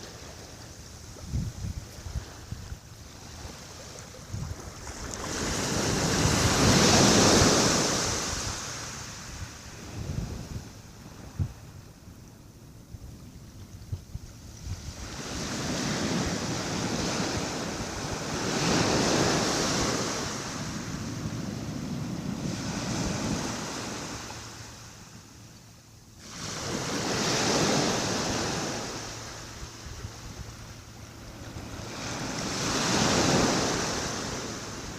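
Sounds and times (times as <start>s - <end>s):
gentle waves washing ashore: 0.0s - 12.4s, 13.1s - 34.9s.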